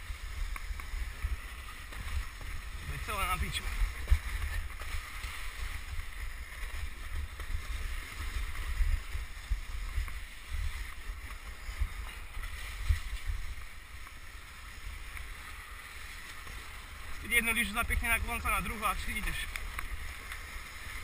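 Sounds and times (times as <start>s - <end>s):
sled runners hissing over snow: 0.0s - 21.0s.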